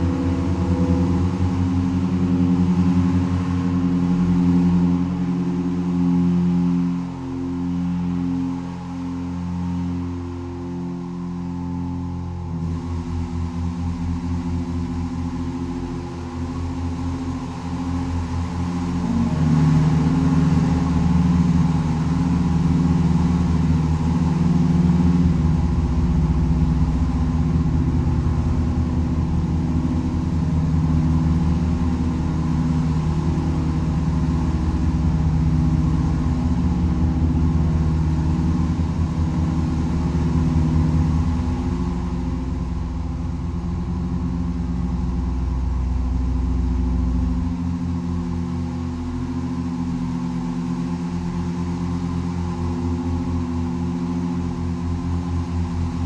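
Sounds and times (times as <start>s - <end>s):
pipe organ sustained low tones: 0.0s - 56.0s.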